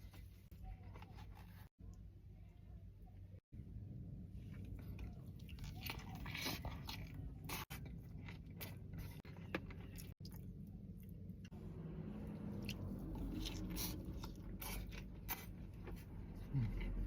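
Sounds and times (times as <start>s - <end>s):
taco bitten and chewed: 0.0s - 2.1s, 4.4s - 17.0s.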